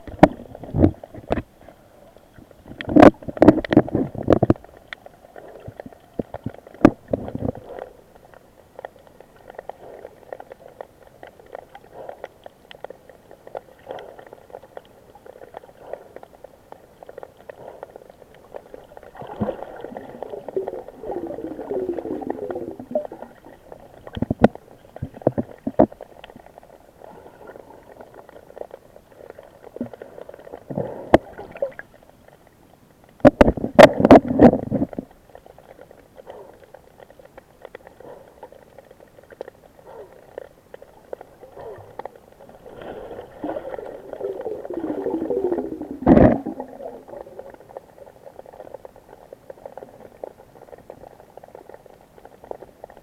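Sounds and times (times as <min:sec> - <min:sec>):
sea water sloshing and gurgling: 0:00.0 - 0:53.0.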